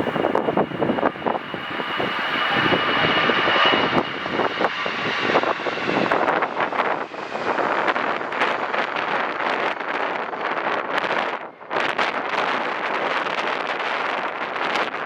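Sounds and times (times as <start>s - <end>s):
airliner engines whining: 0.0s - 15.0s
wind buffeting microphone: 0.0s - 15.0s.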